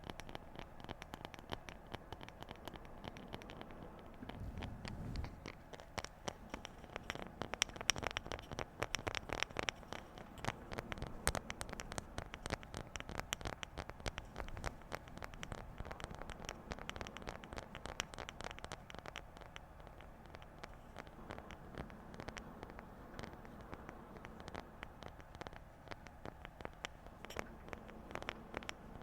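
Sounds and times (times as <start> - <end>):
fast light tapping: 0.0 - 29.0.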